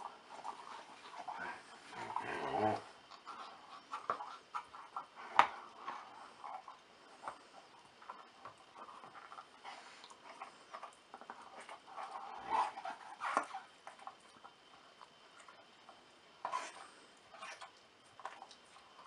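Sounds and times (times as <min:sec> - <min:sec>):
dog chewing: 0:00.0 - 0:19.0.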